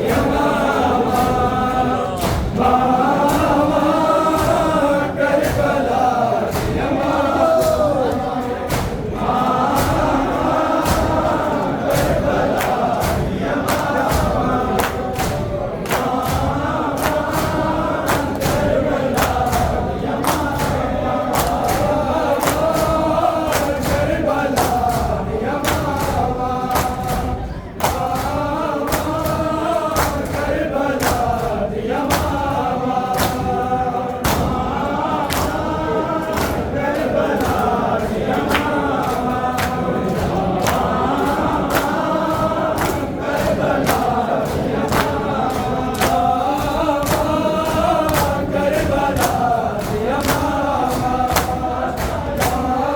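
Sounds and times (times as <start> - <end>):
men chanting in unison: 0.0 - 52.9
hands slapping chests: 2.2 - 33.6, 34.2 - 52.9.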